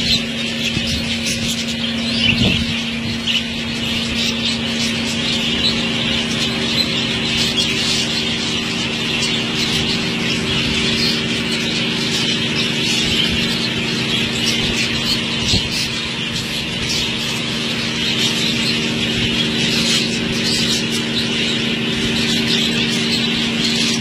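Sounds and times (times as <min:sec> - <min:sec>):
budgerigars chattering: 0:00.0 - 0:24.0
steady low hum: 0:00.0 - 0:24.0.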